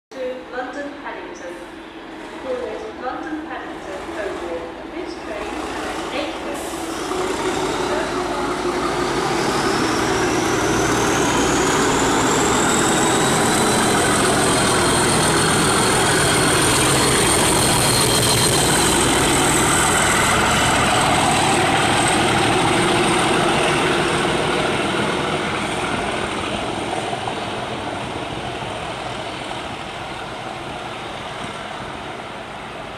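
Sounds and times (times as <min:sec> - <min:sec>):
diesel locomotive engine working hard: 0:00.2 - 0:32.9.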